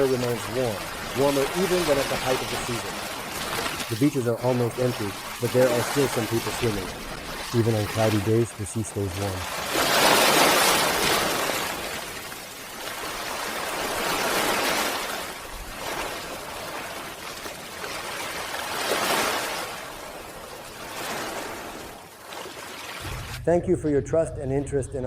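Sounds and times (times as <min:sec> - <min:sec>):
small waves washing onto beach: 0:00.0 - 0:23.4.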